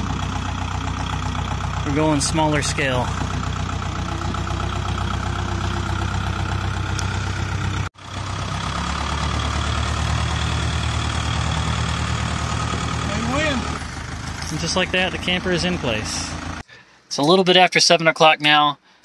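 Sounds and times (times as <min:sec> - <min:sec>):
tractor engine running: 0:00.0 - 0:16.7.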